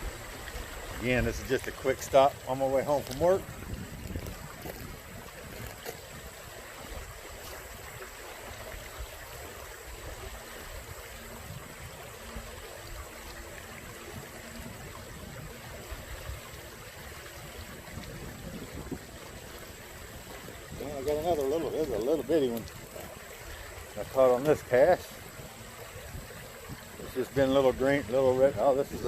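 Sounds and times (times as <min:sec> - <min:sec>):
water running in a ditch: 0:00.0 - 0:29.0
wind rumbling on microphone: 0:00.0 - 0:29.0.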